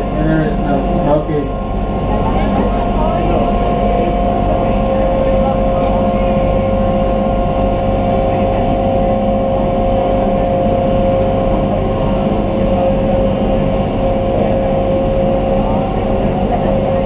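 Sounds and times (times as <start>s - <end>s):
ferry engine drone: 0.0s - 17.0s
steady whine: 0.0s - 17.0s.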